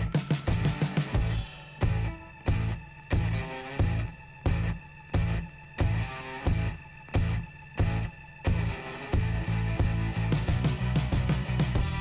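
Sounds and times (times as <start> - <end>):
music with heavy beat: 0.0 - 12.0.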